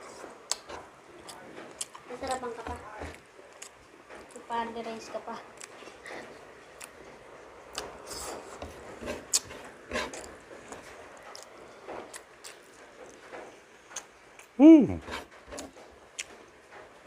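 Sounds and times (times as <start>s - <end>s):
chewing and mouth noises: 0.1s - 4.5s, 5.4s - 7.1s, 7.7s - 16.5s.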